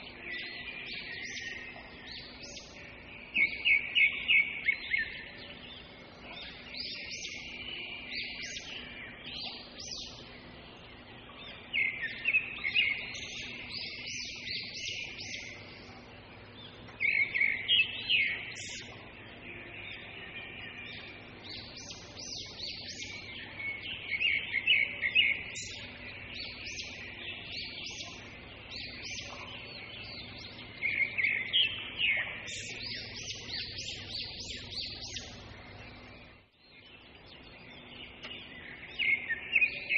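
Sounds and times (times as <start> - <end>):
faint steady hum: 0.0 - 39.9
songbird chirping: 0.0 - 39.9.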